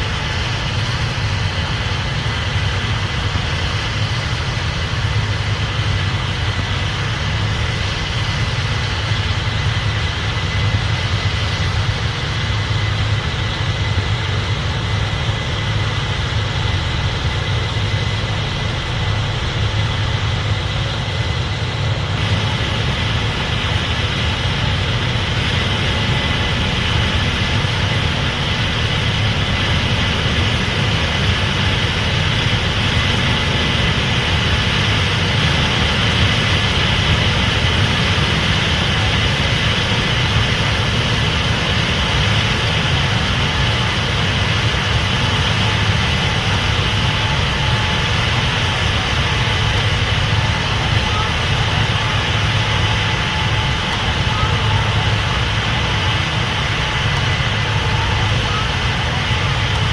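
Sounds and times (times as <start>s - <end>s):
combine engine drone: 0.0s - 59.9s
thin high whine: 0.0s - 59.9s.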